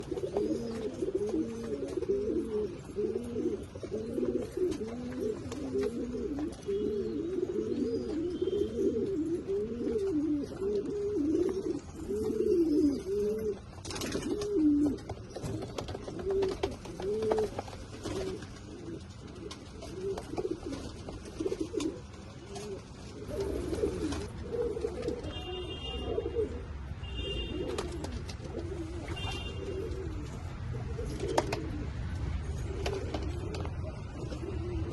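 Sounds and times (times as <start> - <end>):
pigeons cooing: 0.0 - 34.9.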